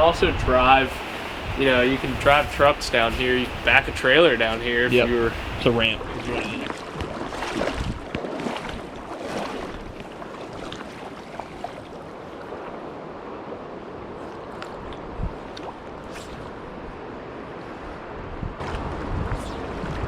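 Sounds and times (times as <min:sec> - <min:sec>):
rushing river water: 0:00.0 - 0:20.0
wind buffeting microphone: 0:00.0 - 0:20.0.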